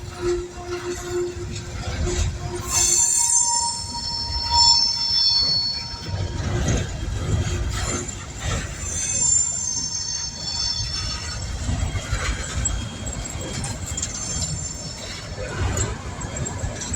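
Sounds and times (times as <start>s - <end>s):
train cars rumbling past: 0.0s - 16.9s
train wheels squealing: 0.0s - 16.9s.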